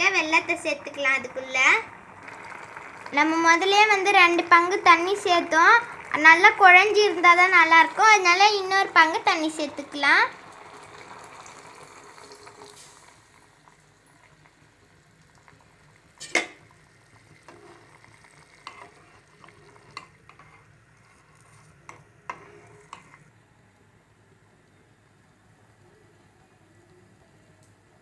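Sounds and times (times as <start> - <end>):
rice bubbling: 0.0 - 23.4
water pouring into a pot: 0.4 - 23.3.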